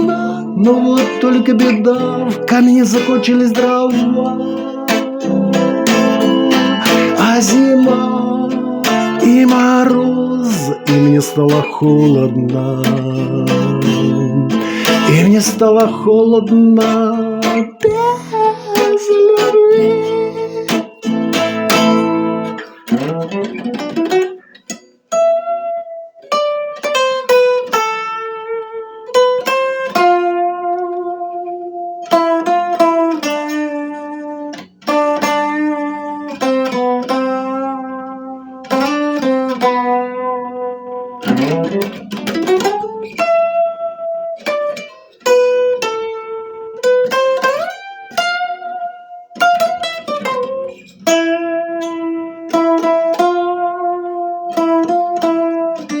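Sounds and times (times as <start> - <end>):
plucked guitar melody: 0.0 - 56.0.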